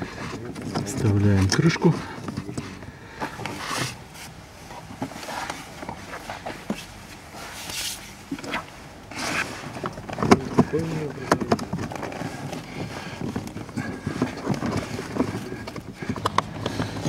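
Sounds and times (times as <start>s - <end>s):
rustling scrapes: 0.0s - 17.0s.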